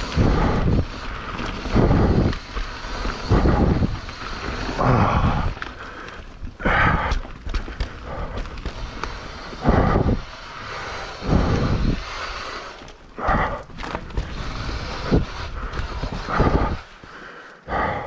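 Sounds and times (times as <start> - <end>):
person breathing hard: 0.0 - 18.0
steady rushing noise: 0.0 - 18.0.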